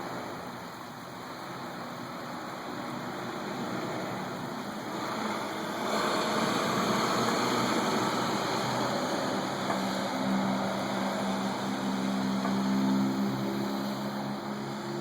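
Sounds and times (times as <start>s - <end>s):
low engine hum: 0.0s - 15.0s
steady rushing noise: 0.0s - 15.0s.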